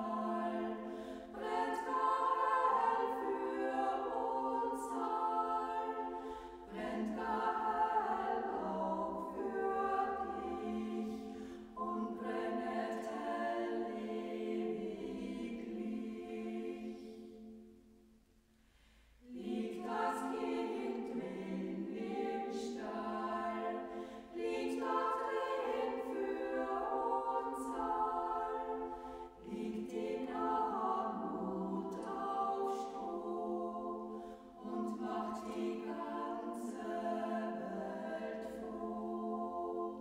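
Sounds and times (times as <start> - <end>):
choir singing a cappella: 0.0 - 18.2, 19.1 - 40.0.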